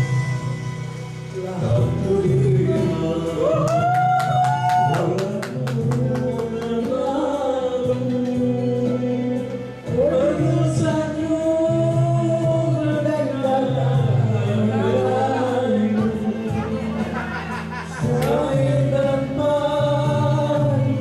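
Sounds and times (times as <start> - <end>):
amplified singing into microphones: 0.0 - 21.0
backing music through pa system: 0.0 - 21.0.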